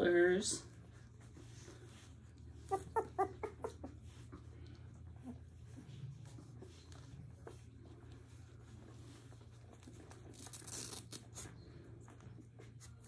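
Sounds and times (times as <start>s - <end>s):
low steady hum: 0.0s - 13.0s
puppies rustling and scratching: 0.0s - 13.0s.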